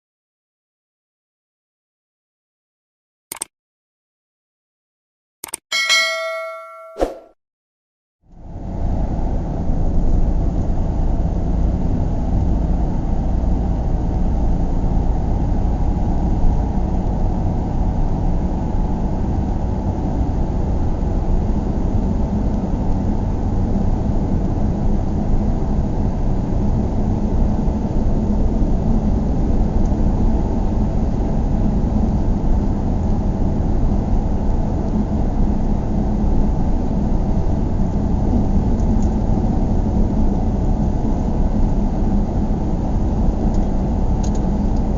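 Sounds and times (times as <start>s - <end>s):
car interior road rumble: 8.4s - 44.9s.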